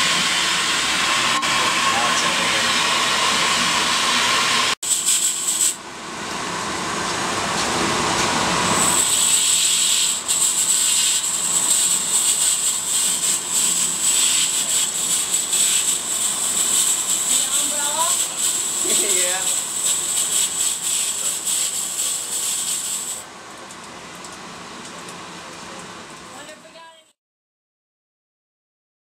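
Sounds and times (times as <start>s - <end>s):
water and air rushing through pipes: 0.0s - 26.5s.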